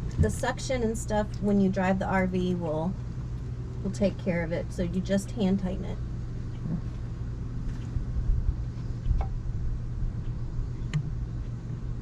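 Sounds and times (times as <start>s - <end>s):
low mechanical hum and rumble: 0.0s - 12.0s.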